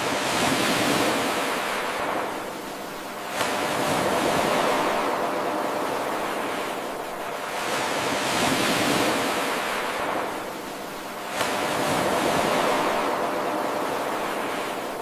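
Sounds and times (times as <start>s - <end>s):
ocean waves washing onto shore: 0.0s - 15.0s.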